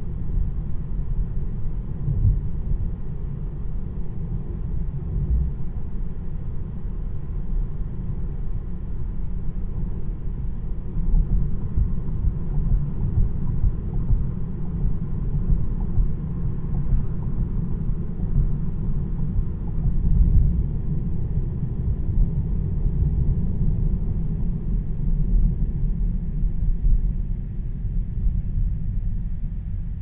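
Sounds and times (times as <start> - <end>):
road and tyre rumble in car: 0.0 - 30.0.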